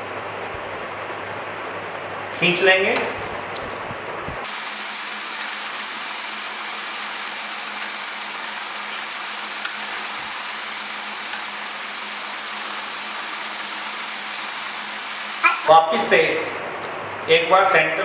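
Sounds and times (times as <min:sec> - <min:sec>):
background hiss with low hum: 0:00.0 - 0:18.0.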